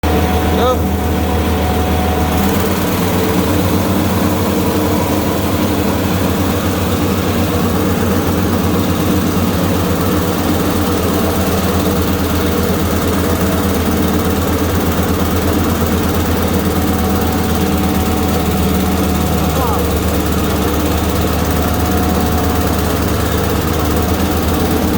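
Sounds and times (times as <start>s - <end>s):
milling machine engine humming: 0.0s - 24.9s.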